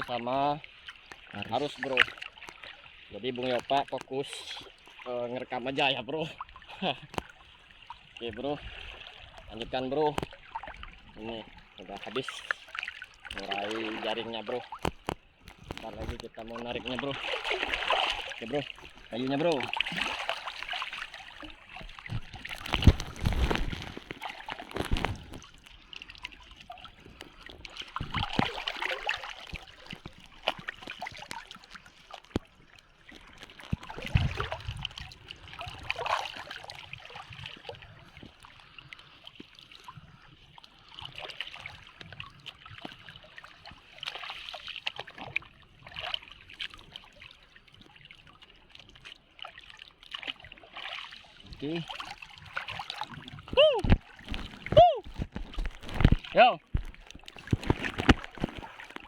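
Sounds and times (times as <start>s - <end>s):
sea water splashing and sloshing: 0.0s - 59.0s.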